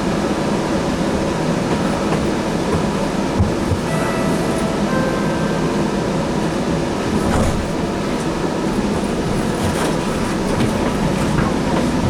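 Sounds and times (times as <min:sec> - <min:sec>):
light rail car rumbling on rails: 0:00.0 - 0:12.0.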